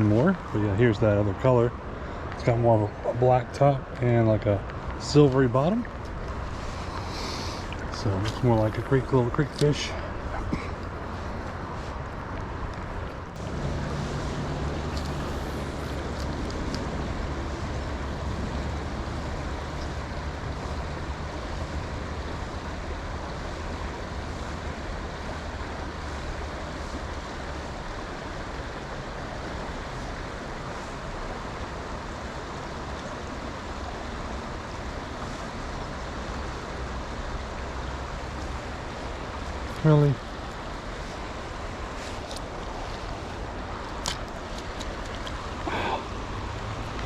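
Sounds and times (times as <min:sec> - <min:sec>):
creek water rushing: 0:00.0 - 0:47.0.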